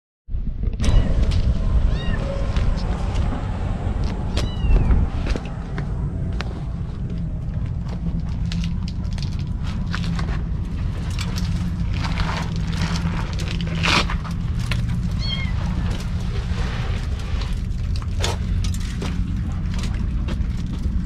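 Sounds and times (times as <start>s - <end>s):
wind buffeting microphone: 0.3s - 21.0s
scattered crackles: 0.4s - 21.0s.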